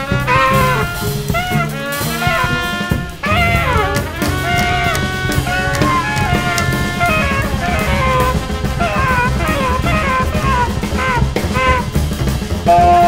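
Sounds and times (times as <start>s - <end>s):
horn chord: 0.0s - 11.8s
bass: 0.0s - 13.0s
drum kit: 0.0s - 13.0s
trumpet melody: 0.0s - 13.0s.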